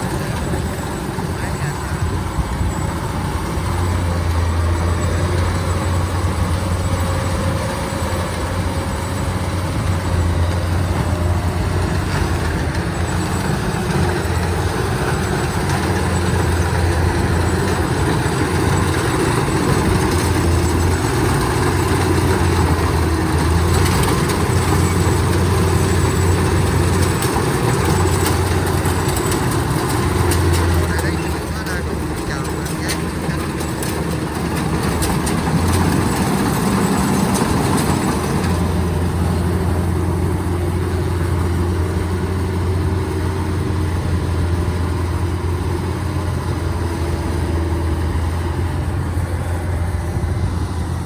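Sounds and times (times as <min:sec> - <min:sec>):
combine harvester diesel engine: 0:00.0 - 0:51.0.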